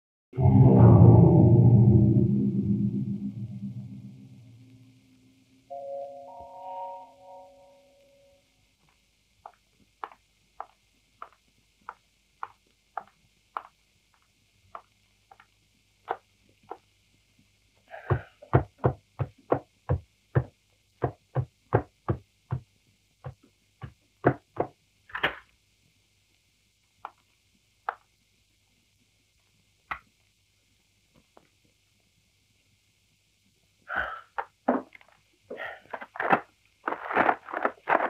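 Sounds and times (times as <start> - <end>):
film soundtrack hiss: 0.4 - 38.0.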